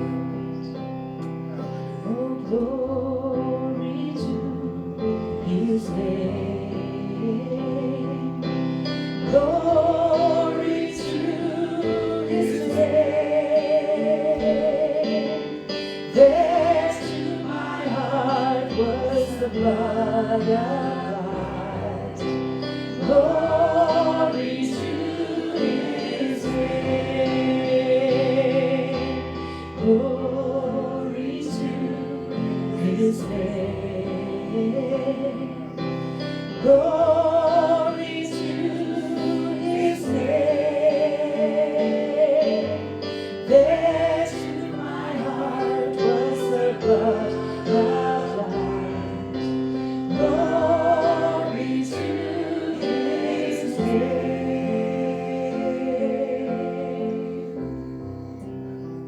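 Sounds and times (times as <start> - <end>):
voices singing gospel: 0.0 - 58.6
sustained accompaniment: 3.9 - 58.9.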